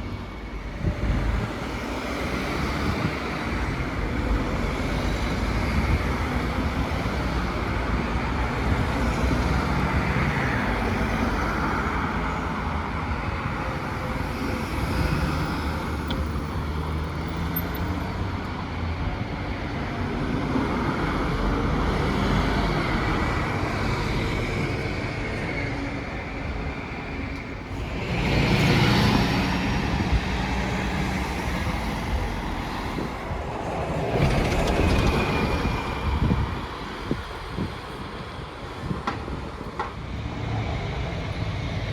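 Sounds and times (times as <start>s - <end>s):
street traffic: 0.0s - 41.9s.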